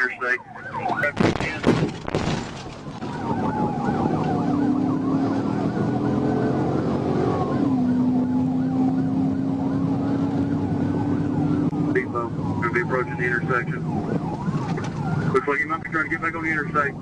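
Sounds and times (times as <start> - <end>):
siren yelp: 0.0 - 1.7, 2.9 - 17.0
siren wail: 0.0 - 17.0.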